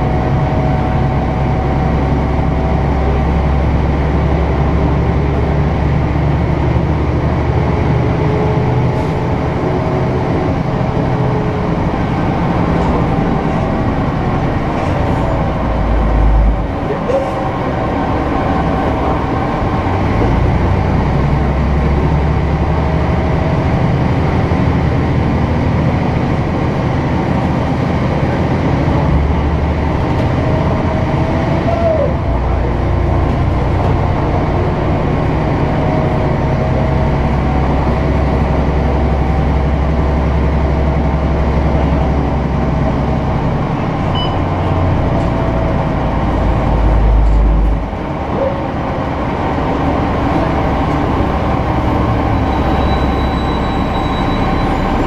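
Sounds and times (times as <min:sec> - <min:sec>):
bus diesel engine: 0:00.0 - 0:55.0
road and rattle noise: 0:00.0 - 0:55.0.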